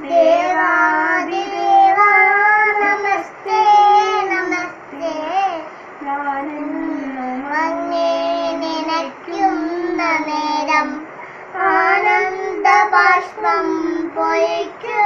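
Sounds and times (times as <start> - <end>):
girl chanting a prayer: 0.0 - 5.8, 6.4 - 15.0.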